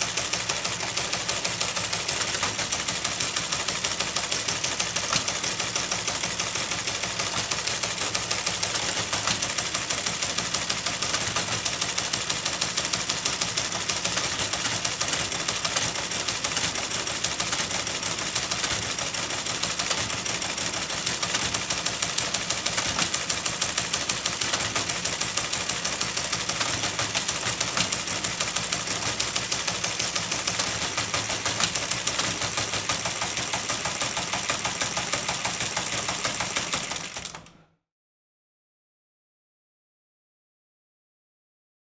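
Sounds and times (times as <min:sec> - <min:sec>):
teleprinter motor running: 0:00.5 - 0:37.5
teleprinter clattering: 0:02.2 - 0:37.5.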